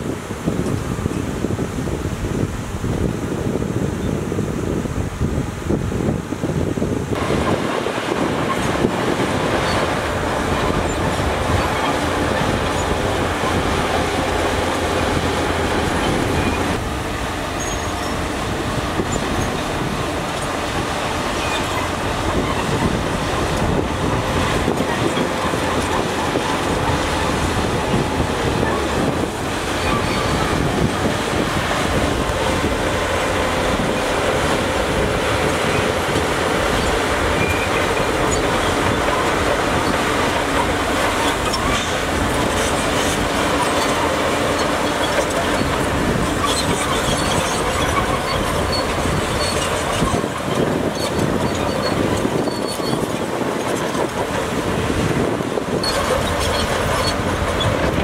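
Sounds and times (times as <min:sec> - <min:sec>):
bulldozer diesel engine running: 0:06.4 - 0:58.0
steel tracks moving: 0:07.1 - 0:58.0.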